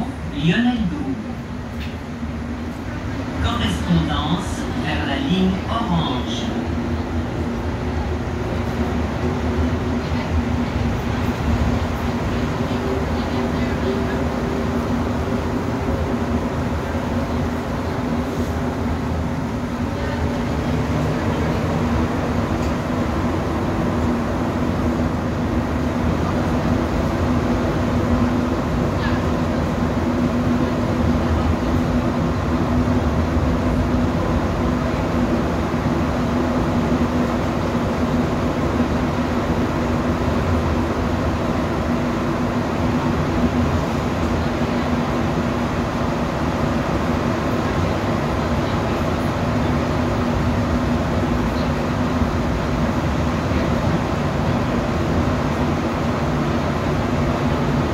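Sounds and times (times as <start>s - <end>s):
train rumbling through tunnel: 0.0s - 57.9s.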